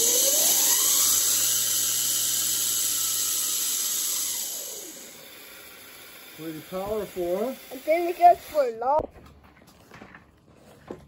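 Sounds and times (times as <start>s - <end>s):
electric motor whine: 0.0s - 9.0s.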